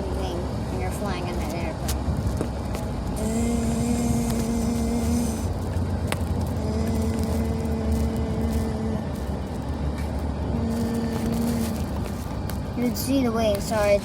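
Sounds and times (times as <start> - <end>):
car road and engine noise: 0.0 - 14.0
steady droning tone: 0.0 - 14.0.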